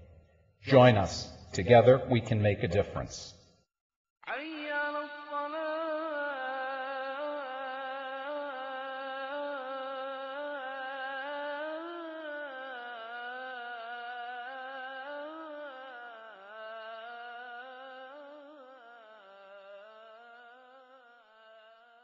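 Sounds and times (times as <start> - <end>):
person singing unaccompanied: 4.2 - 22.0.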